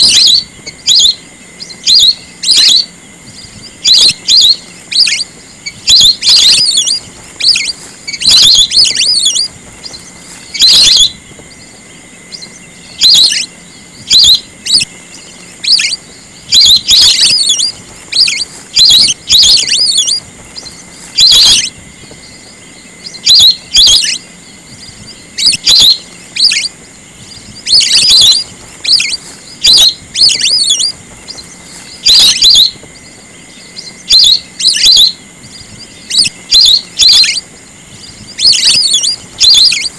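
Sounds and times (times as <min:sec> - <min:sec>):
ducks whistling calls: 0:00.0 - 0:39.9
faint high hum: 0:00.0 - 0:39.9.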